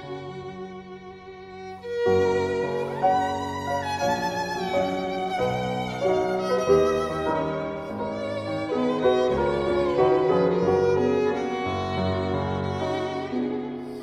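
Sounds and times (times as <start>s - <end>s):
violin melody with accompaniment: 0.0s - 14.0s.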